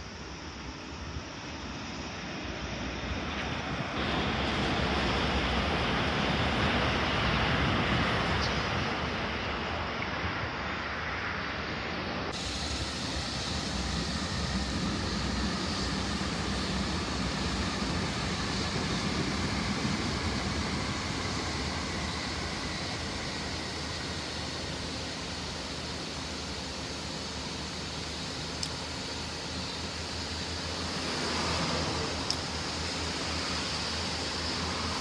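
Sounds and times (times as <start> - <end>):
distant train passing: 2.4 - 35.0.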